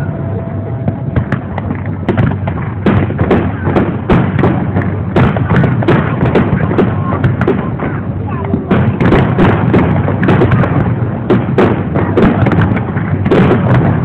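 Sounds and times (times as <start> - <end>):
fireworks bangs and crackles: 0.7 - 14.0.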